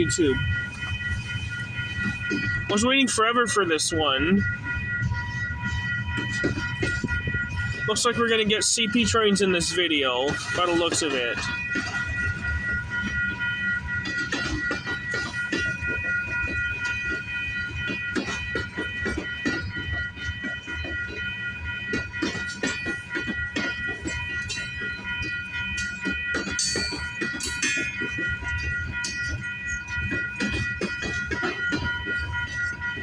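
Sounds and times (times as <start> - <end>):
high ringing tones: 0.0 - 33.0.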